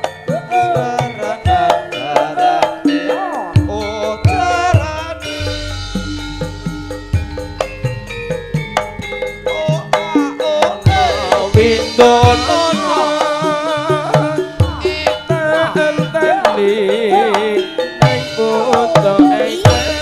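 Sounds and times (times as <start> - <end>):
bending melody line: 0.0 - 20.0
ringing metallophones: 0.0 - 20.0.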